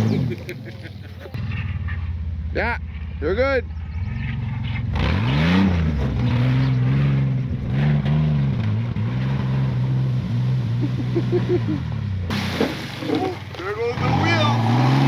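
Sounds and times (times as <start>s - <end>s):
truck engine revving hard: 0.0s - 1.6s, 4.0s - 15.0s.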